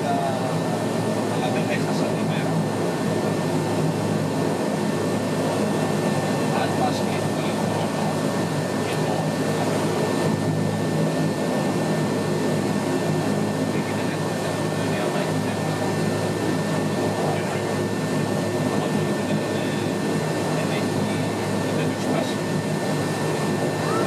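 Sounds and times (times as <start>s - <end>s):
turboprop engine idling: 0.0s - 24.0s.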